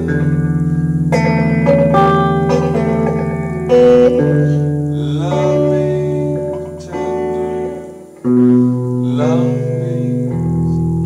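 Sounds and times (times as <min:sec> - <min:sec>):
man singing: 0:00.0 - 0:00.5, 0:02.5 - 0:11.0
guitar chords: 0:00.0 - 0:11.0.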